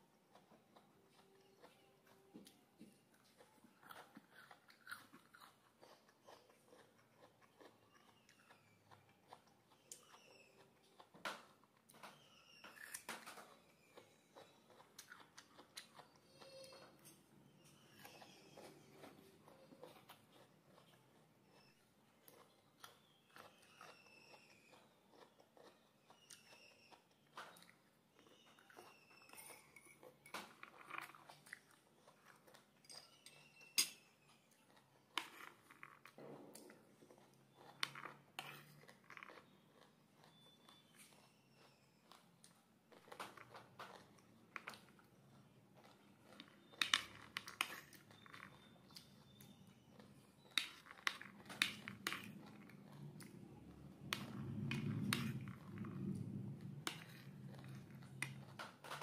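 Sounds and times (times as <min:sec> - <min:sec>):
faint chewing: 0:00.0 - 0:59.0.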